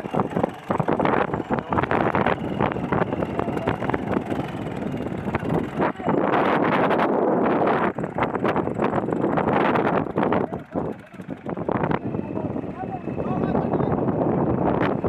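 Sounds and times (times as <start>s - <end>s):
tractor engine running: 0.0s - 15.0s
wind buffeting microphone: 0.0s - 15.0s.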